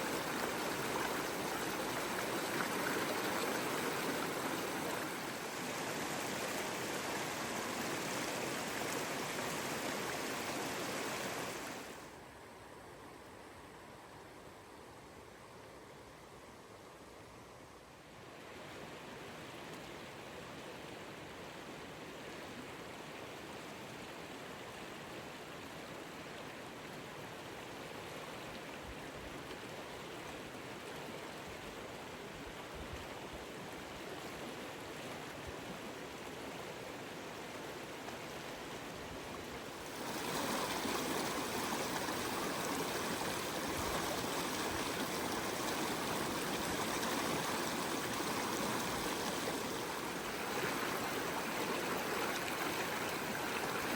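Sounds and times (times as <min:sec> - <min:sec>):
river water rushing: 0:00.0 - 0:12.2, 0:18.3 - 0:53.9.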